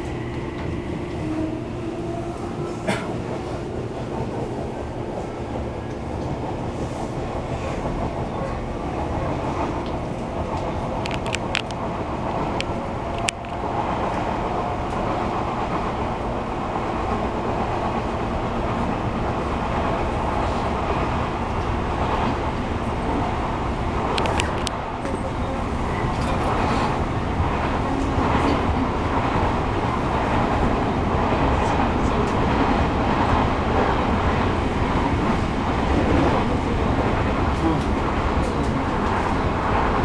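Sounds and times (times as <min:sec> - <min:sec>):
electric train motor hum and whine: 0:00.0 - 0:40.0
wheels rumbling on rail: 0:00.0 - 0:40.0.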